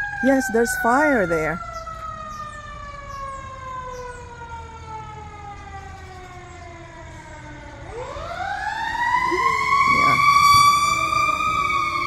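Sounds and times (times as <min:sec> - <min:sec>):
fire truck siren wailing: 0:00.0 - 0:12.0.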